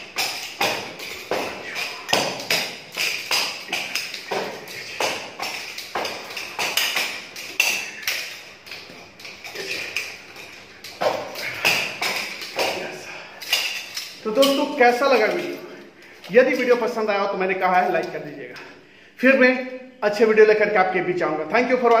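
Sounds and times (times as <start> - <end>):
nunchaku sticks tapping and clicking: 0.0 - 17.0, 17.6 - 18.7.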